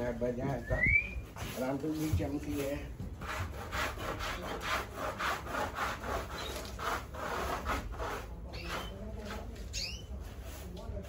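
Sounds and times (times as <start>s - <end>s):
stiff brush sweeping floor: 1.1s - 11.0s.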